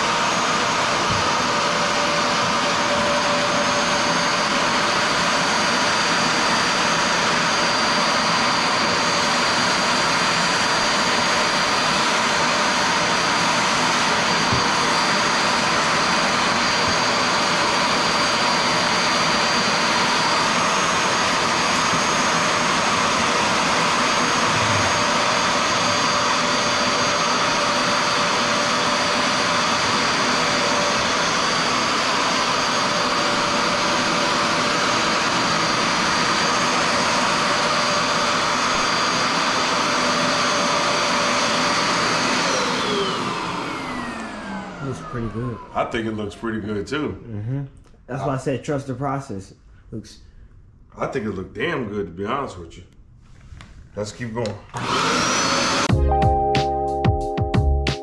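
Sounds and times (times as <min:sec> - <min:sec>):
carpet cleaner motor whining: 0:00.0 - 0:46.7, 0:54.7 - 0:55.9.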